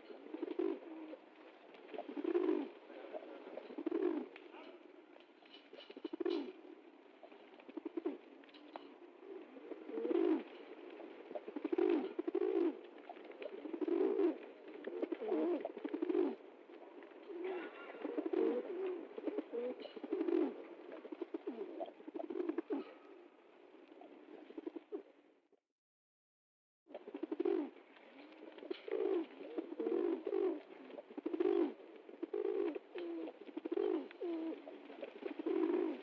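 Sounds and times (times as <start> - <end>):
pigeons cooing: 0.0 - 5.0, 5.6 - 25.2, 26.9 - 36.0.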